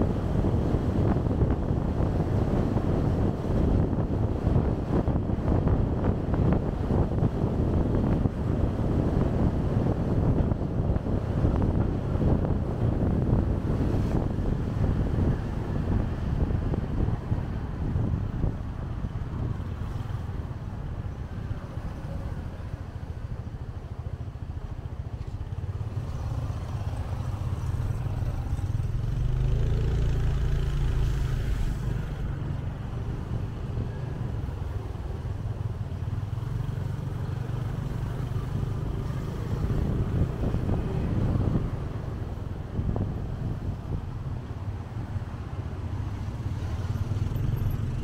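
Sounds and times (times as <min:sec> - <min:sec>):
road noise: 0:00.0 - 0:48.0.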